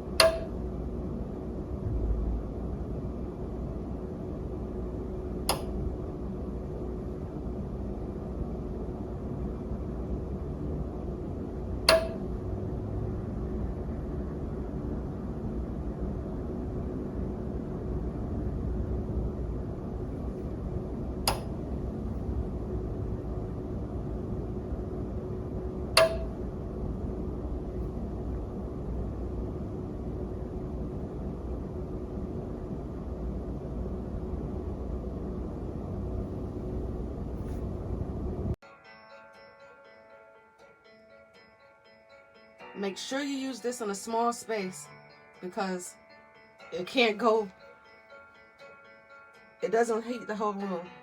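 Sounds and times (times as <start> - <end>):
faint constant hum: 0.0 - 51.0.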